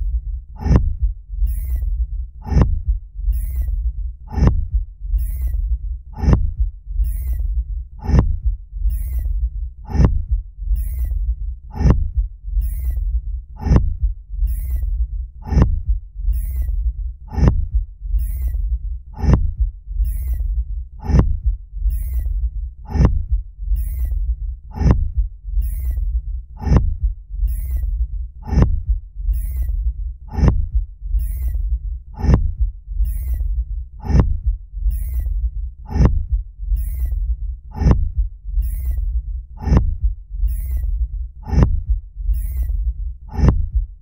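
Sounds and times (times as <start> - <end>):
continuous low rumble: 0.0 - 44.0
deep rhythmic thumps: 0.0 - 44.0.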